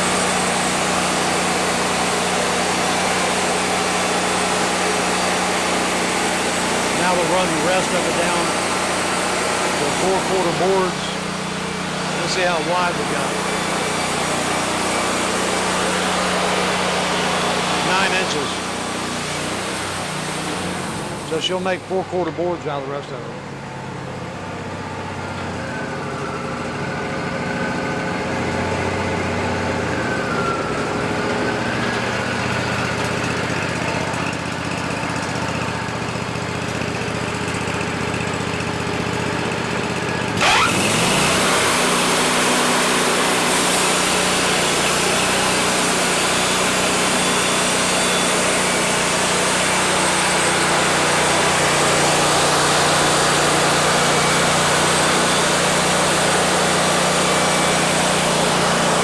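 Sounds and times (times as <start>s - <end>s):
band saw cutting log: 0.0s - 22.5s, 29.6s - 59.0s
sawmill engine whining: 0.0s - 59.0s.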